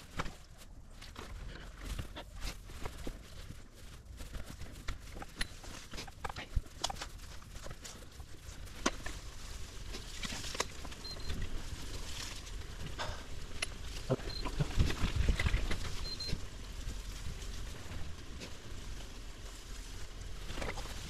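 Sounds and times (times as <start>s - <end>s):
bicycle clicks and rattles: 0.0s - 21.0s
wind rumble on microphone: 0.0s - 21.0s.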